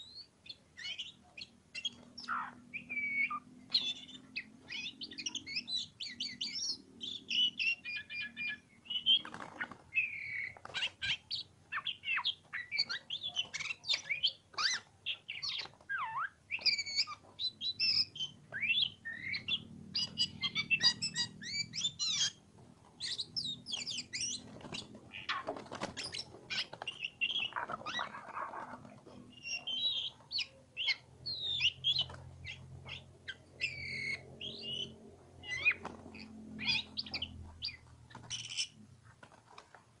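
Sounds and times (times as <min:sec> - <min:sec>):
bird singing varied song: 0:00.0 - 0:38.8.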